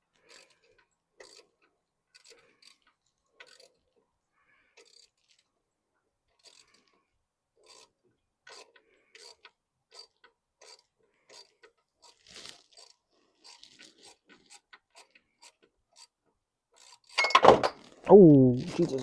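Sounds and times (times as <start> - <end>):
hand wrench clicking and scraping: 0.0 - 5.6, 6.2 - 18.0.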